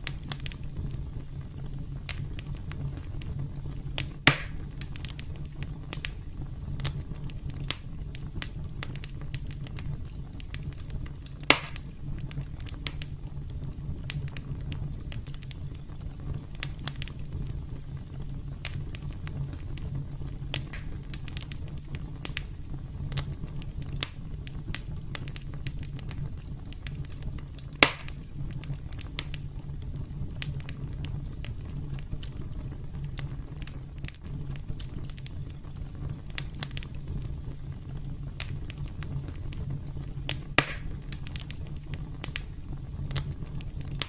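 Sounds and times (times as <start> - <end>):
campfire wood crackling: 0.0 - 44.0
low rumble of flames: 0.0 - 44.0.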